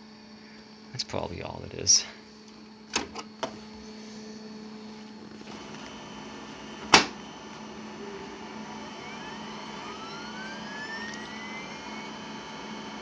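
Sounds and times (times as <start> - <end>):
printer fan and motors whirring: 0.0 - 13.0.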